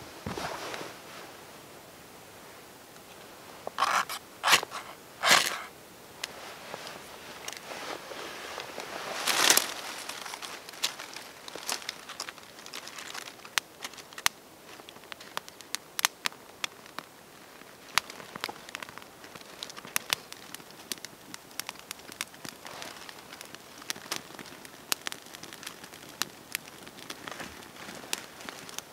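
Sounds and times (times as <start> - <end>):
fire crackling and popping: 2.8 - 28.9
dry leaves crinkling: 3.8 - 5.7, 6.3 - 28.9.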